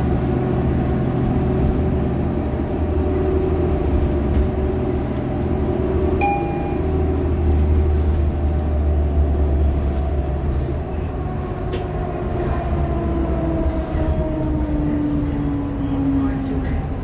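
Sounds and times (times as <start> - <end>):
low bus engine rumble: 0.0 - 17.0.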